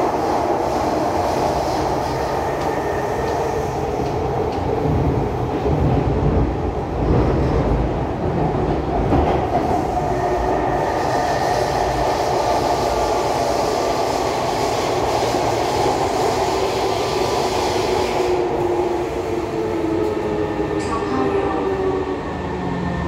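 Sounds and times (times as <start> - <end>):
rail and wheel noise: 0.0 - 23.0.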